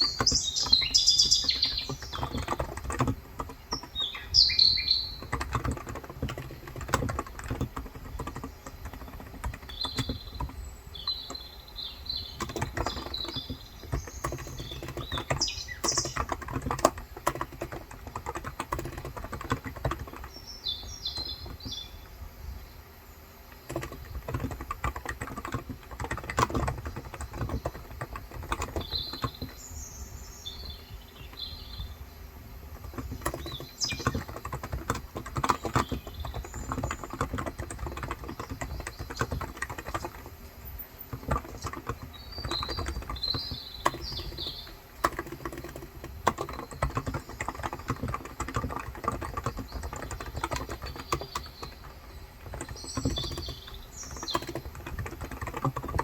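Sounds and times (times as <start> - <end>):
keyboard typing clicks: 0.0 - 11.5, 12.1 - 21.9, 23.5 - 29.6, 32.7 - 56.0
birds chirping: 0.0 - 56.0.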